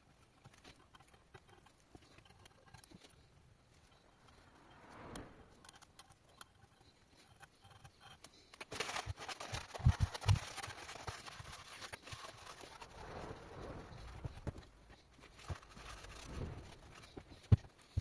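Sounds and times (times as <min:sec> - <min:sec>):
scraping and shuffling: 0:00.0 - 0:18.0.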